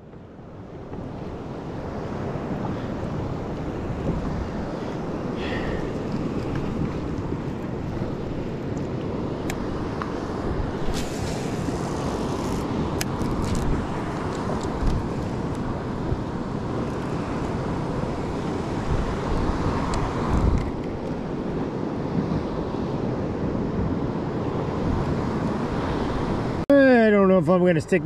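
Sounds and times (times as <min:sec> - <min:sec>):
wind buffeting microphone: 0:00.6 - 0:26.6.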